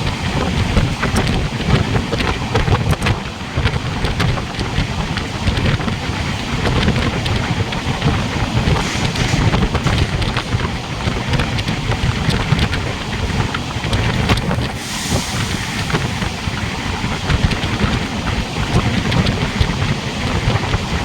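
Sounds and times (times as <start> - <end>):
train rumbling and rattling: 0.0 - 21.0
wind buffeting microphone: 0.0 - 21.0.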